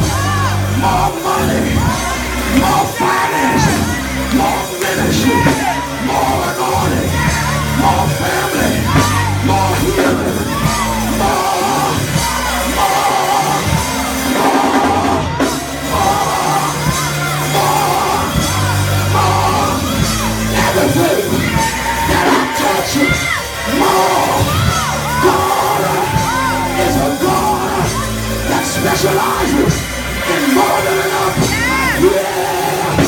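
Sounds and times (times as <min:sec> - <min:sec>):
church band keyboard and drums: 0:00.0 - 0:33.0.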